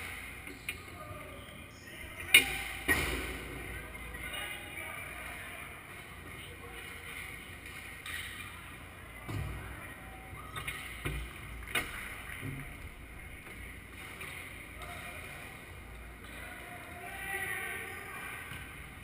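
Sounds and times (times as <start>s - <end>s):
echoing hall ambience: 0.0s - 19.0s.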